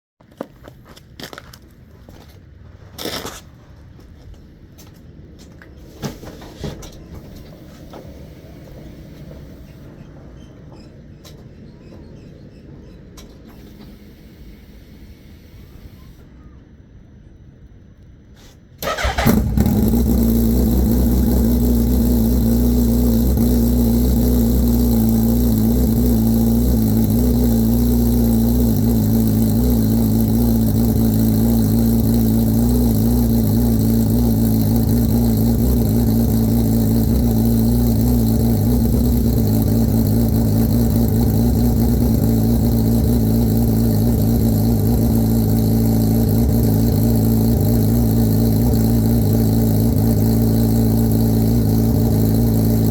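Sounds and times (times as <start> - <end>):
motorcycle engine starting and idling: 4.8 - 16.4, 18.4 - 52.9.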